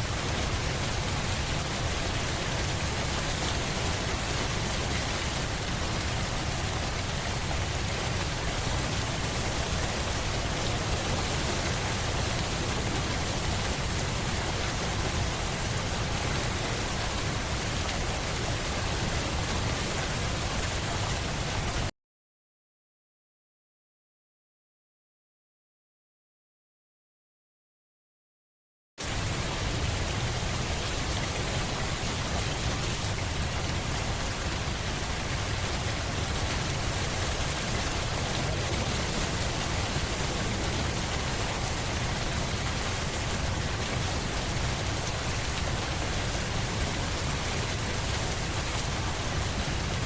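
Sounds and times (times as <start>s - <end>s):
steady rain: 0.0s - 21.9s, 29.0s - 50.0s.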